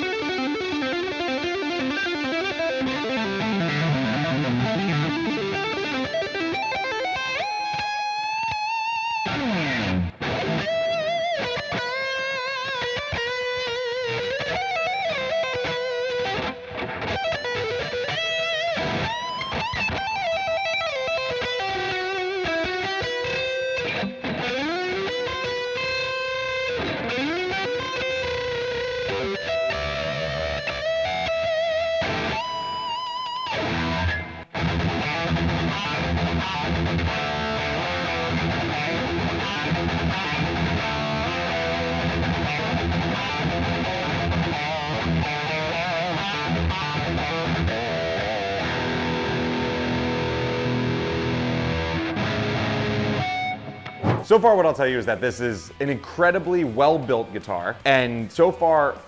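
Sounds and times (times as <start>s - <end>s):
electric guitar lead melody: 0.0s - 59.0s.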